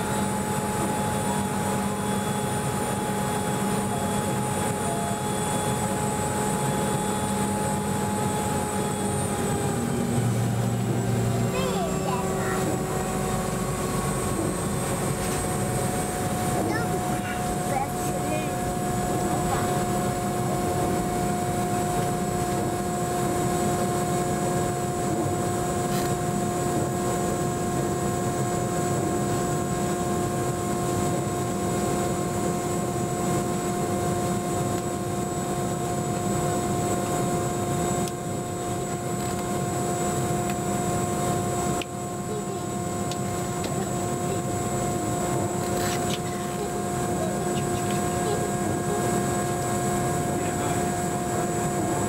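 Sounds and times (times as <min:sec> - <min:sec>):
jet engines idling whine: 0:00.0 - 0:52.0.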